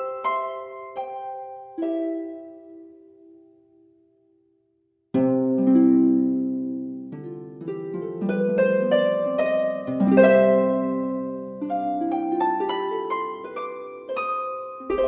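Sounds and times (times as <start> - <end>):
plucked harp-like notes: 0.0 - 3.4, 5.2 - 15.0.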